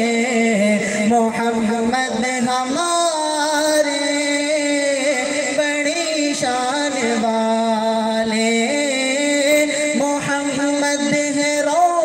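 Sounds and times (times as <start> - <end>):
young man singing unaccompanied: 0.0 - 12.0.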